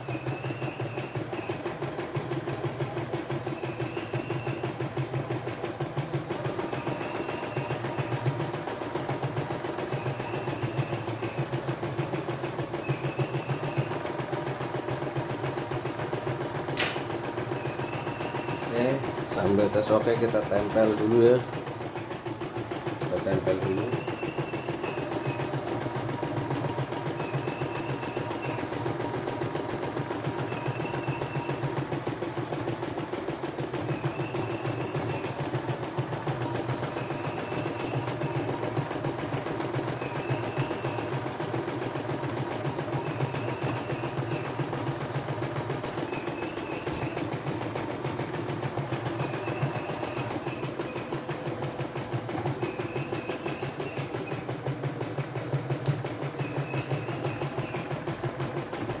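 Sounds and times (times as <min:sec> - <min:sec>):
embroidery machine needle clatter: 0:00.0 - 0:59.0.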